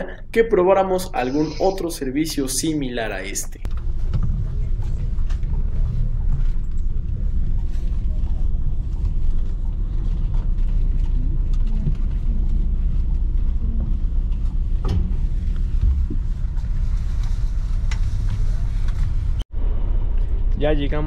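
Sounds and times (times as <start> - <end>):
bus diesel engine rumble: 0.0 - 21.0.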